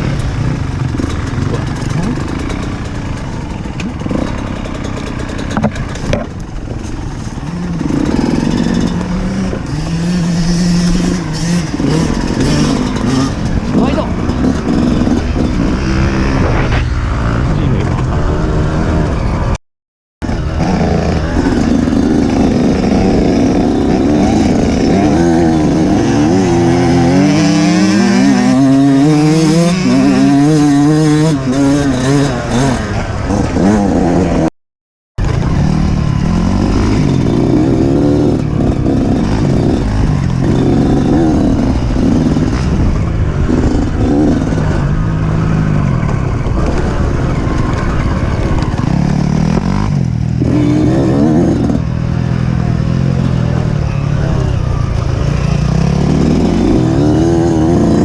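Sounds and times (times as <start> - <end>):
motorcycle engine revving: 0.0 - 19.6, 20.2 - 34.5, 35.2 - 58.0.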